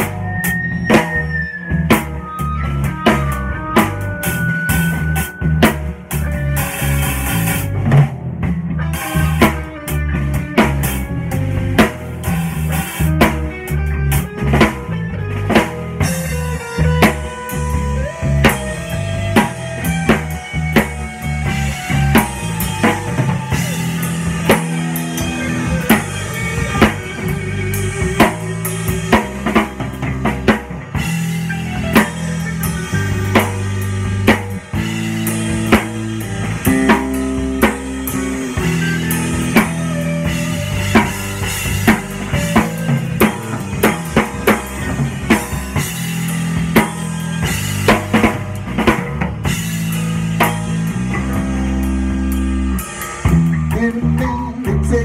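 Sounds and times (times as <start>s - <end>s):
drum kit beat: 0.0s - 55.0s
sustained guitar notes: 0.0s - 55.0s.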